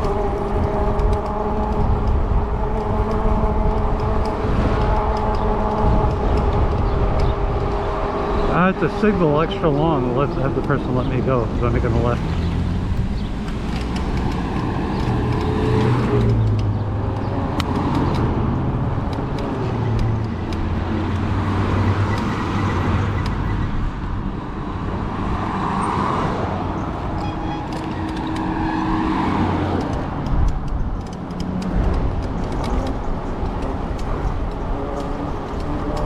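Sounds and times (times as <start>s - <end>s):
car engines running: 0.0s - 36.0s
vehicles passing close by: 0.0s - 36.0s.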